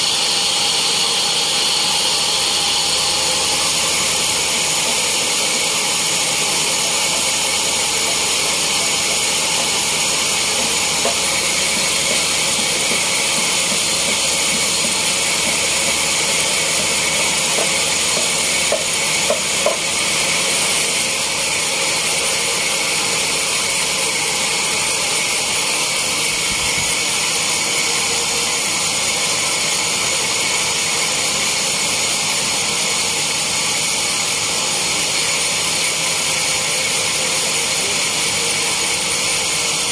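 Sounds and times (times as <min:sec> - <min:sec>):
sawmill saw hissing: 0:00.0 - 0:39.9.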